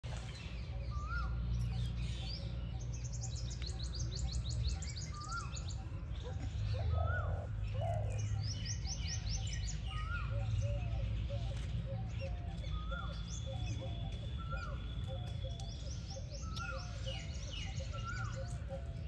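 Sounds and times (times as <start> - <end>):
birds chirping rapidly: 0.0 - 19.0.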